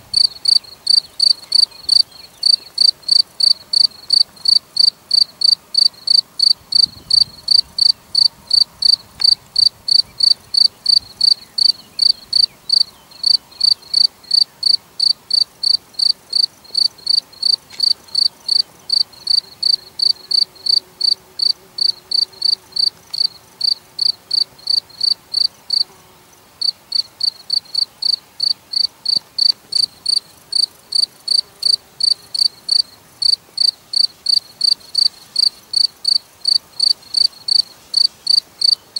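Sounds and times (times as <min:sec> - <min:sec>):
cricket chirping: 0:00.1 - 0:25.9, 0:26.6 - 0:38.8.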